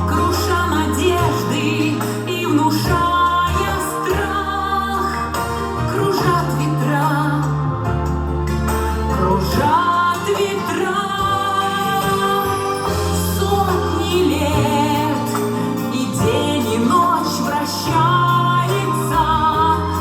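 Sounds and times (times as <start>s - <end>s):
instrumental backing with bass: 0.0s - 20.0s
woman singing with vibrato: 0.0s - 20.0s.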